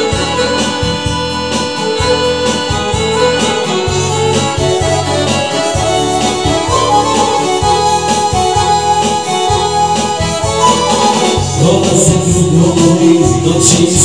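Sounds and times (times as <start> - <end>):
bass line and drums: 0.0 - 14.0
keyboard melody: 0.0 - 14.0.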